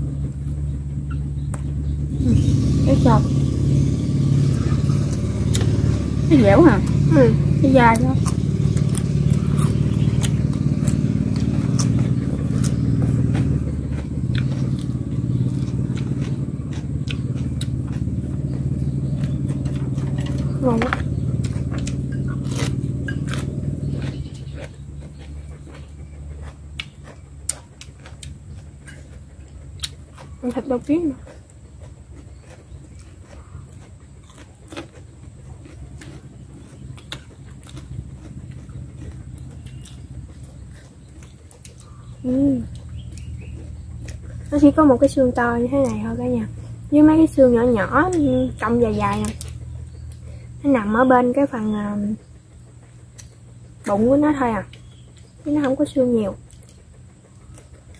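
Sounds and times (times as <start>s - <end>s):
crunching and chewing: 0.0s - 57.9s
engine droning: 0.0s - 57.9s
steady low hum: 0.0s - 57.9s.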